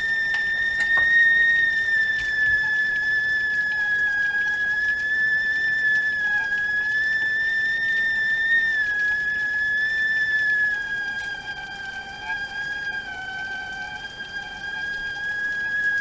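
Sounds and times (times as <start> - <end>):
kettle whistling: 0.0 - 16.0.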